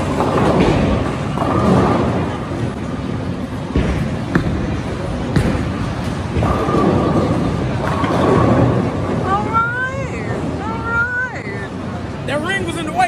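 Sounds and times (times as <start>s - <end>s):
bowling balls rolling: 0.0s - 11.5s
crowd chatter: 0.0s - 13.0s.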